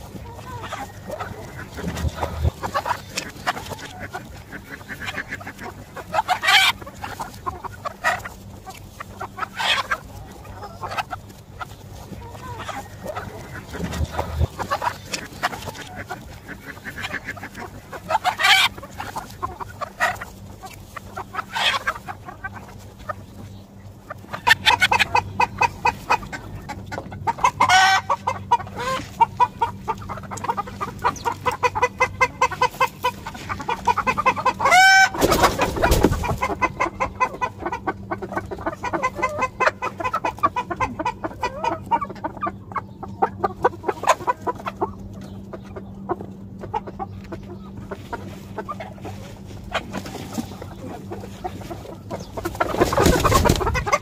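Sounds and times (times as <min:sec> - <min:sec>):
chicken drawn-out calls: 0:00.0 - 0:54.0
chickens clucking: 0:00.0 - 0:54.0.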